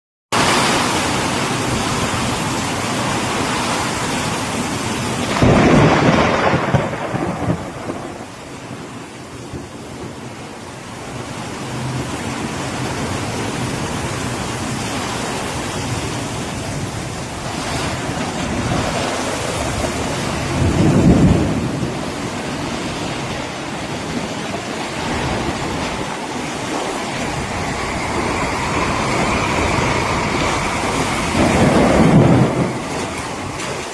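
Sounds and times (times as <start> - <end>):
heavy rain in wind: 0.4 - 33.9.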